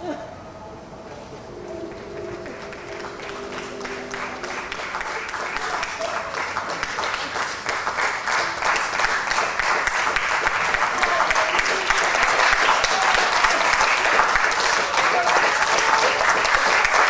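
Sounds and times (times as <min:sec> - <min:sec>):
audience applauding: 0:01.3 - 0:17.0.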